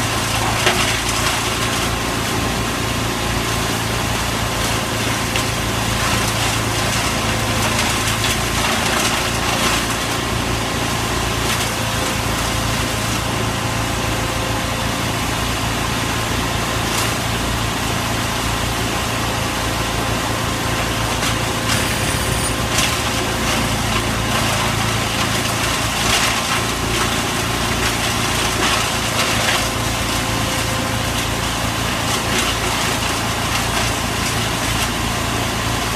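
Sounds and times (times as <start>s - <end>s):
wood chipper engine drone: 0.0s - 35.9s.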